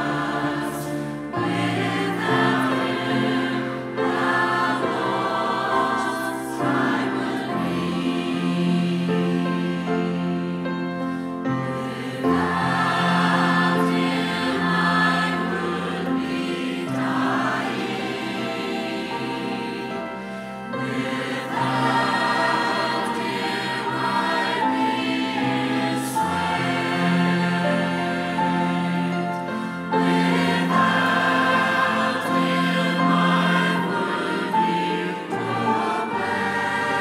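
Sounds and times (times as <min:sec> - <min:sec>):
choir singing a hymn: 0:00.0 - 0:37.0
piano accompaniment: 0:00.0 - 0:37.0.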